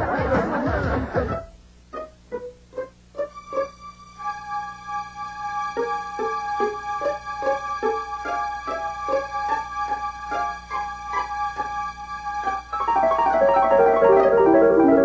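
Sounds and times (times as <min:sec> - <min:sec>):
keyboard music: 0:01.3 - 0:15.0.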